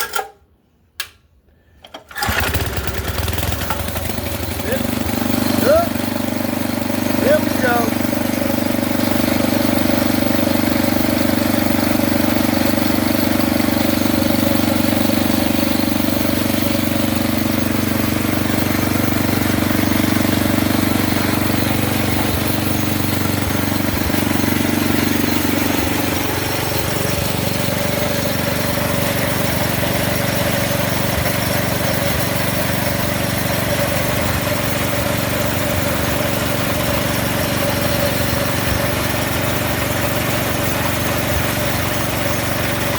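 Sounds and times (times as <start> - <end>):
small engine running: 2.1 - 42.9.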